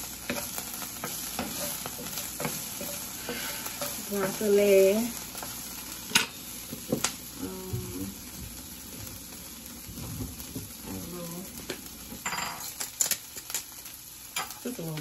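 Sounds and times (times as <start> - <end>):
broccoli sizzling in oil: 0.0 - 15.0.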